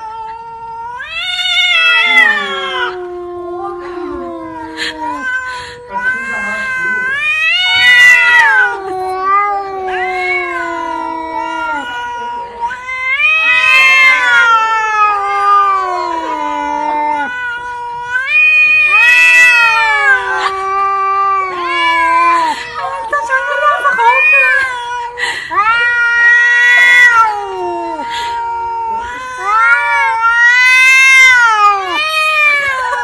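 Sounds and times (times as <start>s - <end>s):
cat yowling: 0.0s - 33.0s.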